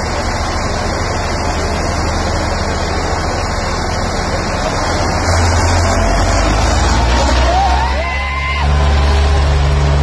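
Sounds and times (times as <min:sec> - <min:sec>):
tractor diesel engines rumbling: 0:00.0 - 0:10.0.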